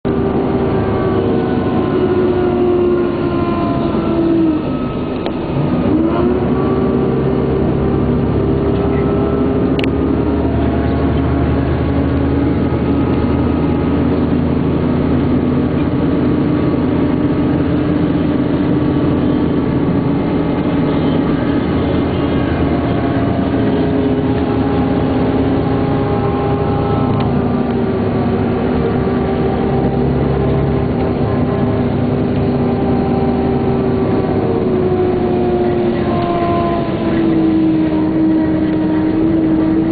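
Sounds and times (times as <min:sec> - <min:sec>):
coach engine running: 0:00.0 - 0:39.9.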